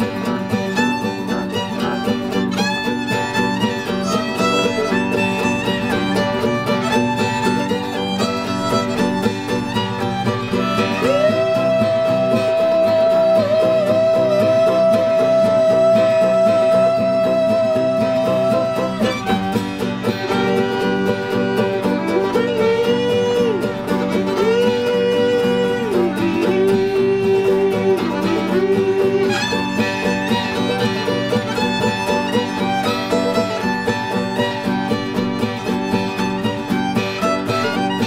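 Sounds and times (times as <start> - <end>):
bowed string melody: 0.0 - 38.0
plucked string accompaniment: 0.0 - 38.0.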